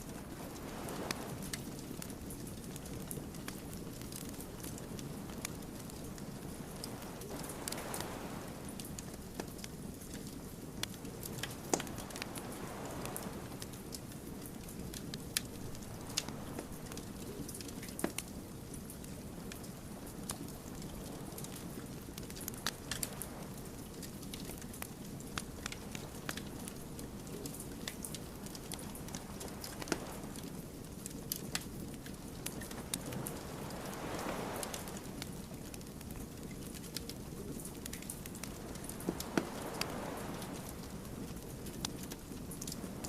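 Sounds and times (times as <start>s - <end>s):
low rush of burning logs: 0.0s - 43.0s
wood fire crackling: 0.0s - 43.0s
fire pops and snaps: 0.6s - 43.0s.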